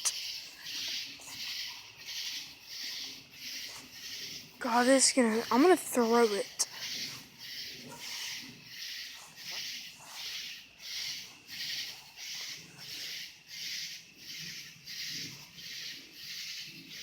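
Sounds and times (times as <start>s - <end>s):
night insects buzzing: 0.0s - 17.0s.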